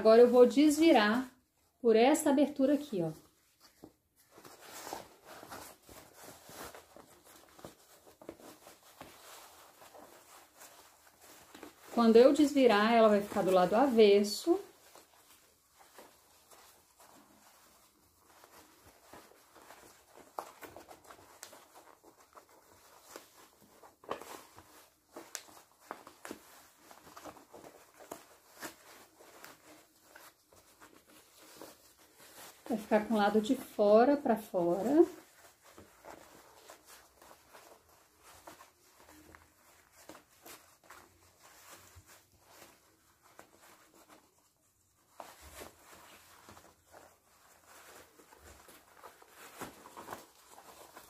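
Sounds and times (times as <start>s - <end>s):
fabric rustling and crinkling: 0.0s - 51.0s.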